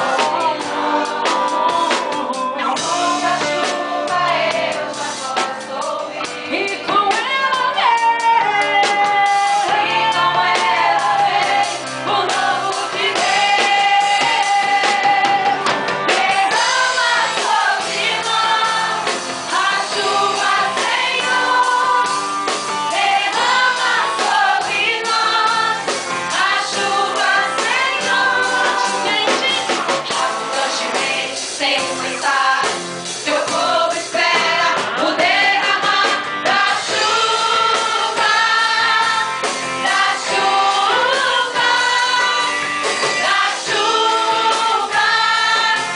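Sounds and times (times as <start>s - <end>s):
group singing worship song: 0.0s - 45.9s
instrumental backing: 0.0s - 45.9s.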